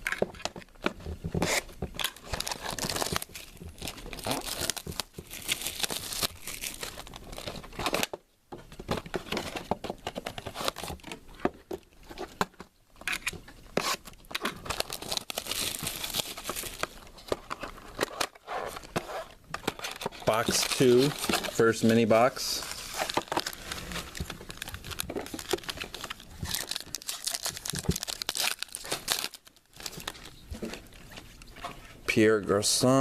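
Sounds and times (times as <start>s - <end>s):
plastic wrapping tearing and crinkling: 1.4s - 8.1s, 9.0s - 11.1s, 13.0s - 31.7s.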